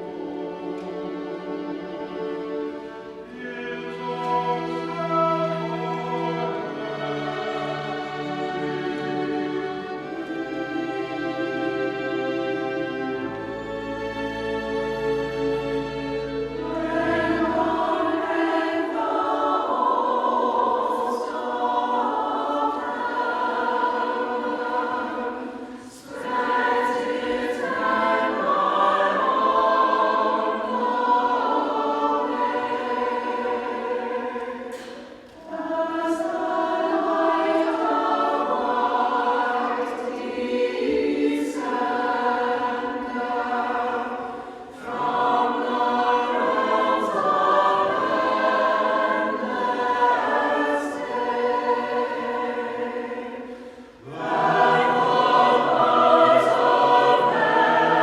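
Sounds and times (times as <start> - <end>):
choir singing sacred music: 0.0 - 58.0.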